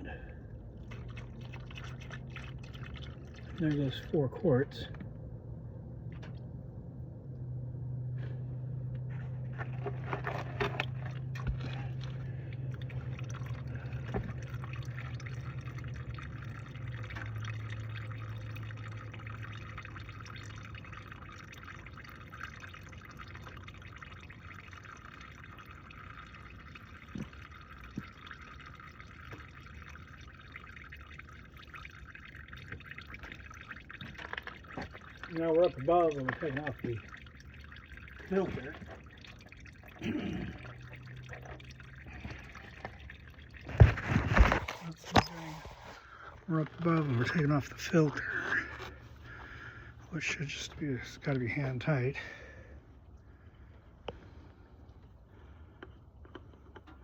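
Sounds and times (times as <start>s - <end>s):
oil pouring into drain pan: 0.0s - 4.7s, 9.0s - 52.7s
low hum: 0.0s - 56.7s.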